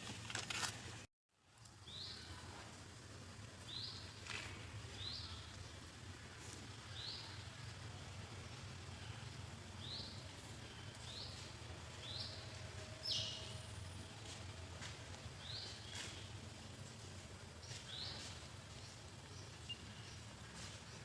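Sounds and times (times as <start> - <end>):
steady low hum: 0.8 - 21.0.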